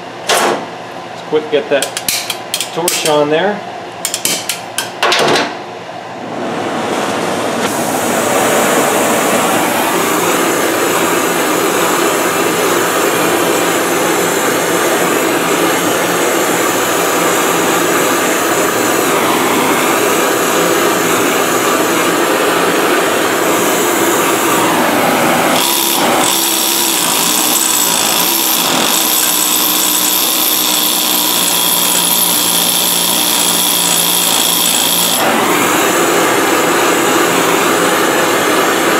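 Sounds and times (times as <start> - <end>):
thin high whine: 7.4 - 38.9.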